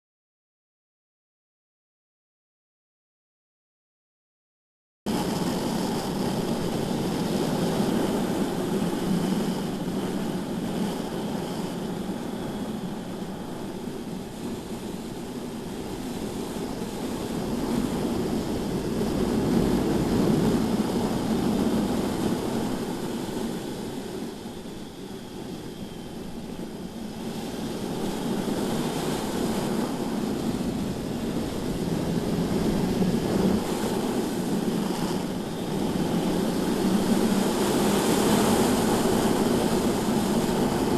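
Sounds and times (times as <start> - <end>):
wind rushing over microphone: 5.1 - 40.9.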